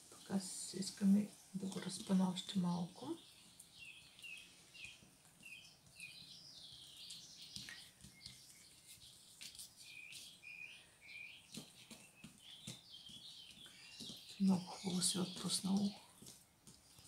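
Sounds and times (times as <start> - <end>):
birds twittering: 0.0 - 17.0.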